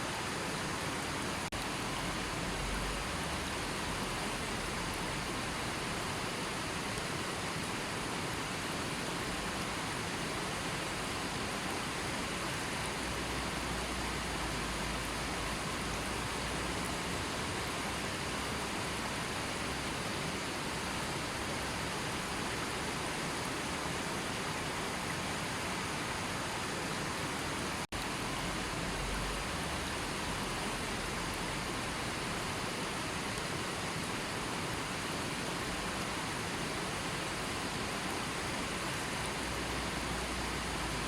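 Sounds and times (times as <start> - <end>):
river water flowing: 0.0 - 41.0.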